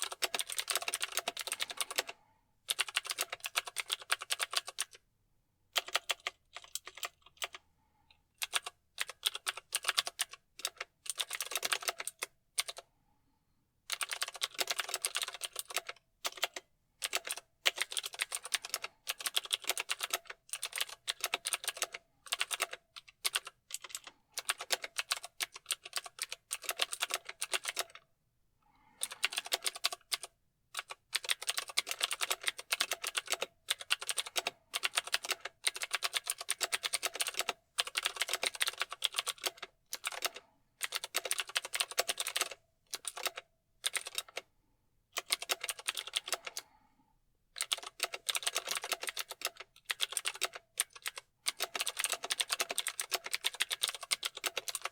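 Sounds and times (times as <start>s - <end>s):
mechanical keyboard typing: 0.0s - 2.1s, 2.7s - 5.0s, 5.8s - 7.6s, 8.4s - 12.8s, 13.9s - 28.0s, 29.0s - 44.4s, 45.2s - 46.7s, 47.6s - 54.9s.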